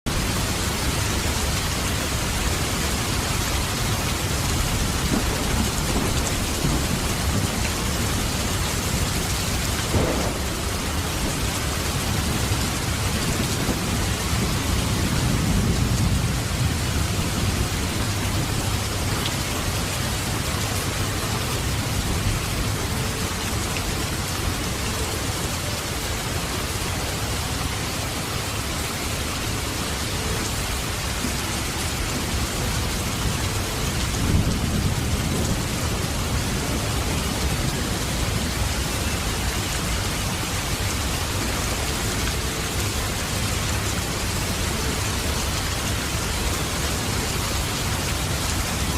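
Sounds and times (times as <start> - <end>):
heavy rain pouring: 0.1 - 48.9.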